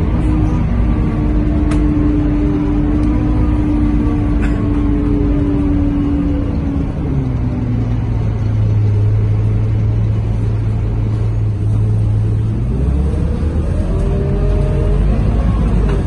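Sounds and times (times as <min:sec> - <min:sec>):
bus diesel engine: 0:00.0 - 0:16.0.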